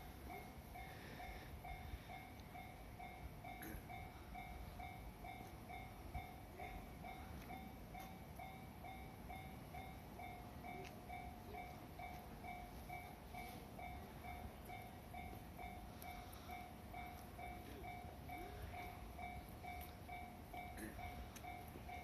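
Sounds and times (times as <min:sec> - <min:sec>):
level crossing warning bell: 0:00.0 - 0:22.0.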